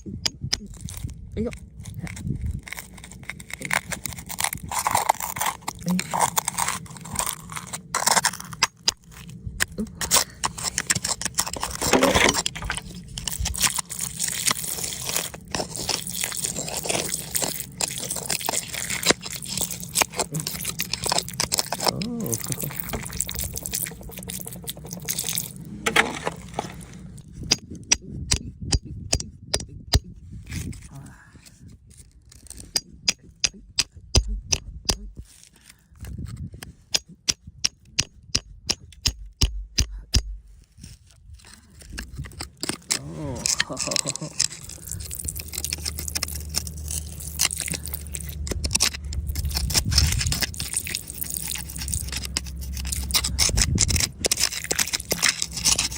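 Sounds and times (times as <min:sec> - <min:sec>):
hand tools scraping rock: 0:00.0 - 0:28.0, 0:29.0 - 0:55.9.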